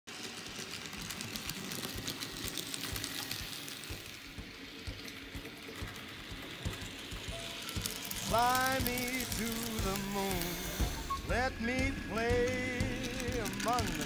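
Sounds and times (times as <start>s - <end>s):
model train motor hum: 0.1s - 14.0s
wheels clicking over rails: 0.1s - 14.0s.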